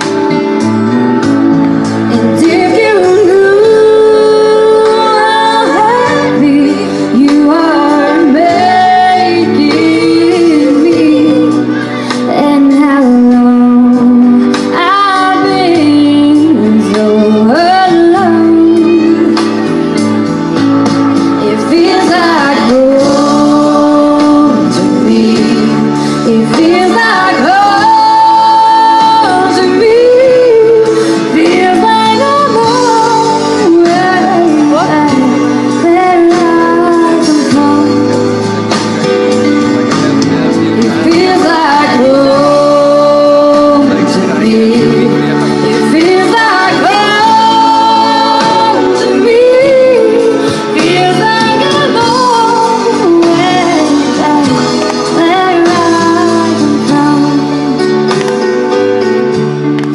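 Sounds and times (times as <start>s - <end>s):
instrumental accompaniment: 0.0s - 59.9s
woman singing through pa: 2.1s - 19.7s, 21.4s - 38.4s, 40.8s - 58.1s.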